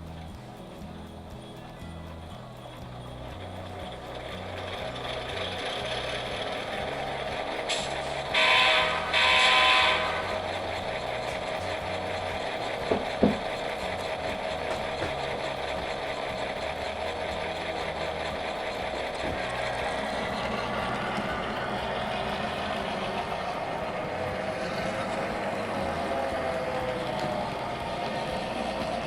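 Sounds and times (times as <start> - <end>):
model locomotive diesel engine sound: 0.0 - 29.0.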